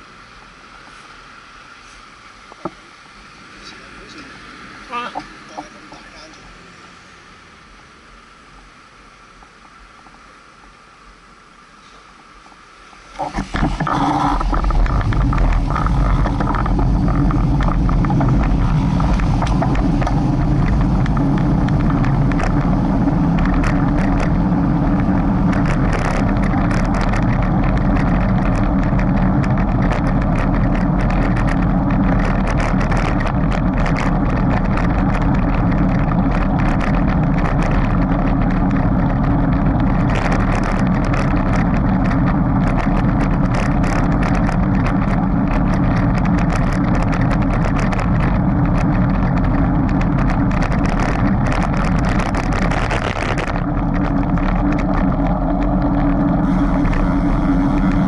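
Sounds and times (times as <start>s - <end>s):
engine-like running sound: 0.0s - 58.0s.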